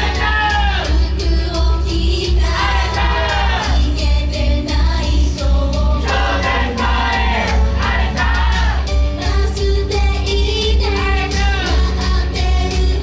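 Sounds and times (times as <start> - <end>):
heavy bass beat: 0.0 - 13.0
live pop music: 0.0 - 13.0
voices singing: 0.0 - 13.0.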